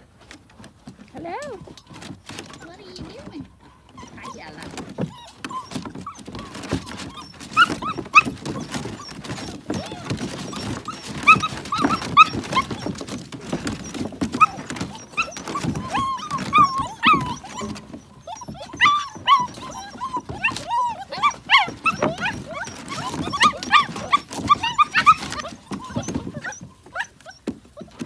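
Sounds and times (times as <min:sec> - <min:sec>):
puppies chewing and lapping: 0:00.0 - 0:28.0
puppies whimpering and squealing: 0:01.2 - 0:28.0.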